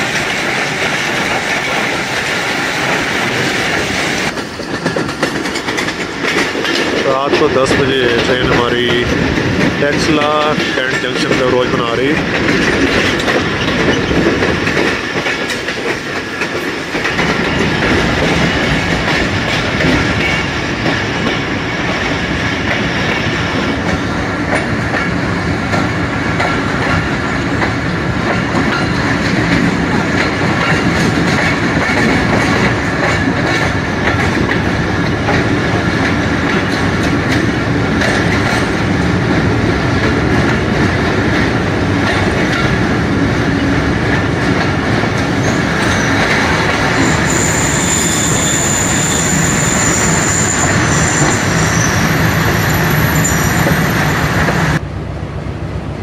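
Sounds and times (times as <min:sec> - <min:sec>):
wheels clicking over rail joints: 0:00.0 - 0:54.1
train running on rails: 0:00.0 - 0:56.0.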